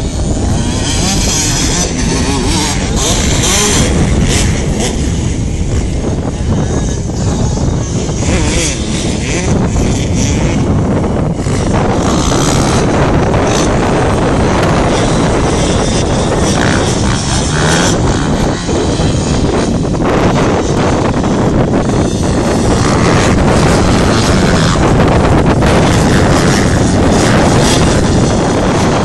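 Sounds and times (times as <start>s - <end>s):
motocross bike engines: 0.0s - 29.0s
wind buffeting microphone: 0.0s - 29.0s.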